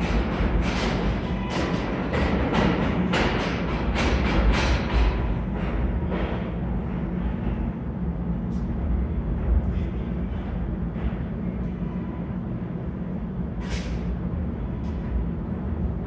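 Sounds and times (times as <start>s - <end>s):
train rumbling in tunnel: 0.0s - 16.0s.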